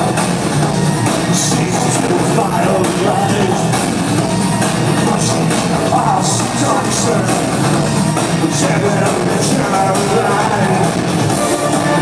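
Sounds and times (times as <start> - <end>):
industrial band playing live: 0.0 - 12.0.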